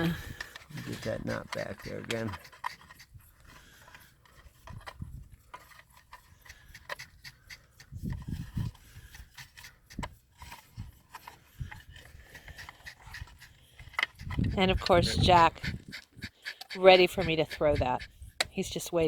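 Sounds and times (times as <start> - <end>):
handling clicks and rubbing: 0.0 - 19.0.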